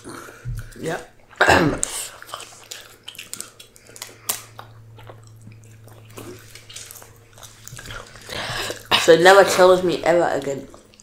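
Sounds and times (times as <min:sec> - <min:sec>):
faint steady low hum: 0:00.0 - 0:11.0
person chewing food: 0:00.0 - 0:11.0.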